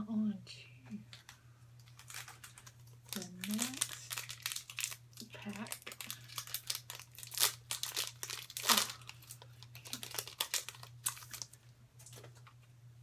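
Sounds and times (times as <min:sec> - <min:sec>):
wrapper being torn and crinkled: 0:01.8 - 0:12.5.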